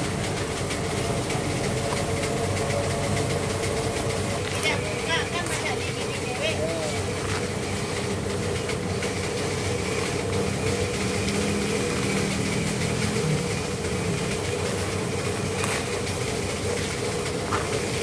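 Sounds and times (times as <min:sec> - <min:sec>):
machine engine droning: 0:00.0 - 0:18.0.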